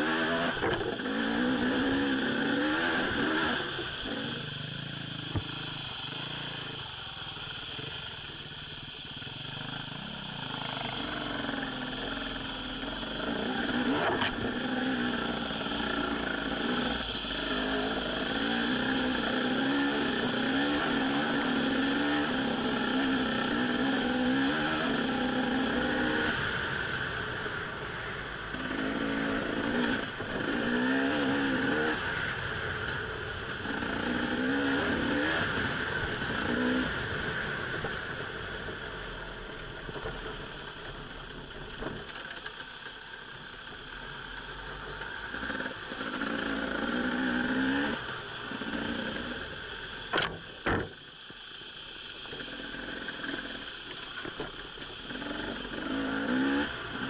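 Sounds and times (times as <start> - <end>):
dirt bike engine revving: 0.0 - 27.1, 28.5 - 38.0, 45.0 - 57.0.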